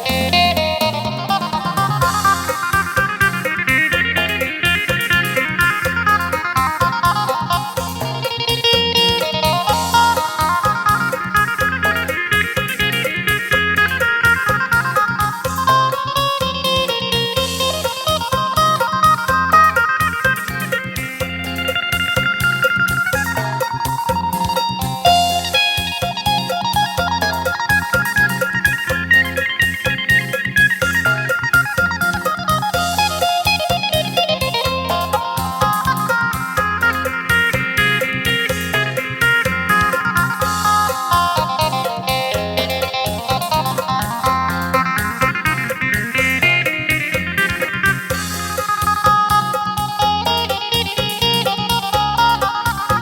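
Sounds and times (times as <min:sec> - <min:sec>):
driving bass and drum beat: 0:00.0 - 0:53.0
plucked lute fast melody: 0:00.0 - 0:53.0.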